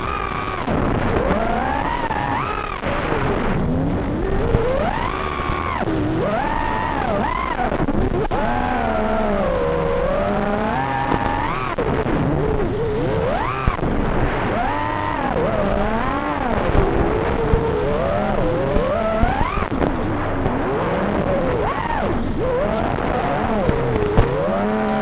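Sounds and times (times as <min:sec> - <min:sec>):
drone motors whining: 0:00.0 - 0:25.0
steady rushing noise: 0:00.0 - 0:25.0.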